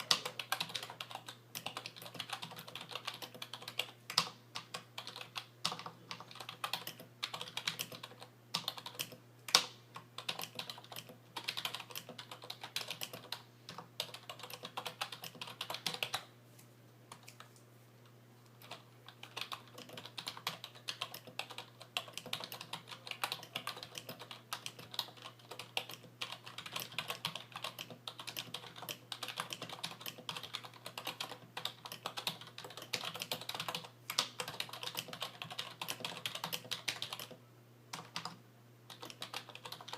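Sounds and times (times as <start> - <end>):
typing on a keyboard: 0.0 - 16.3, 18.6 - 39.9.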